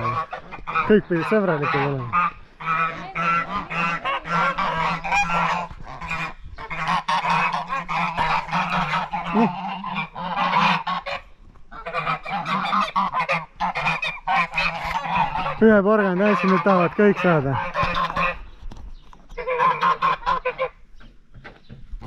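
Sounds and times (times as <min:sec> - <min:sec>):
geese honking: 0:00.0 - 0:18.5, 0:19.3 - 0:21.2.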